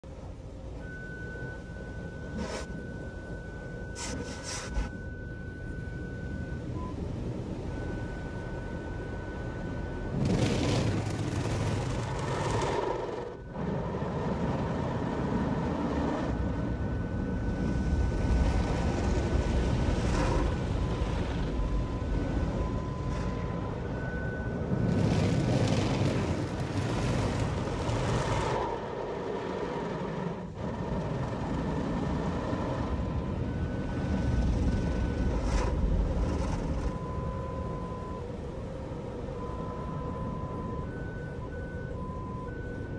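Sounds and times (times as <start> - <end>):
car wash water jets and brushes: 0.1 - 8.1, 10.1 - 37.4.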